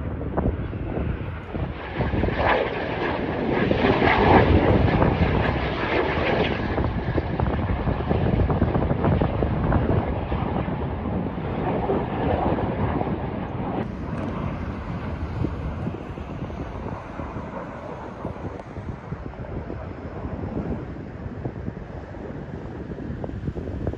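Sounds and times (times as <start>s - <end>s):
jet aircraft flying past: 0.0s - 23.9s
wind buffeting microphone: 0.0s - 23.9s.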